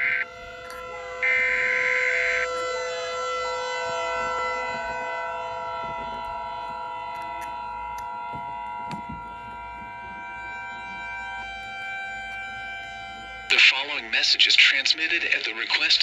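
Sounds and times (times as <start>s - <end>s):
electronic drone: 0.0s - 16.0s.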